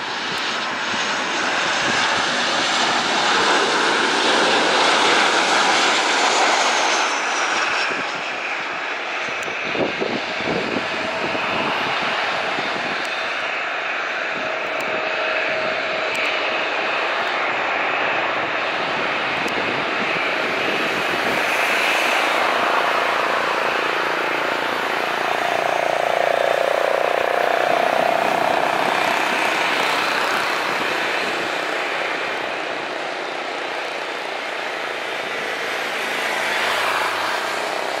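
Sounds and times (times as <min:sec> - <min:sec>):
jet engine whine: 0:00.0 - 0:38.0
jet engines running: 0:00.0 - 0:38.0.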